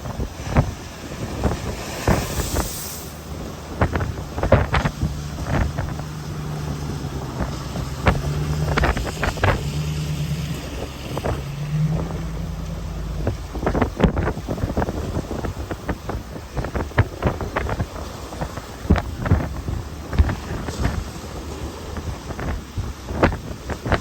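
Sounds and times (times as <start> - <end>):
low engine hum: 0.0 - 24.0
wind buffeting microphone: 0.0 - 24.0.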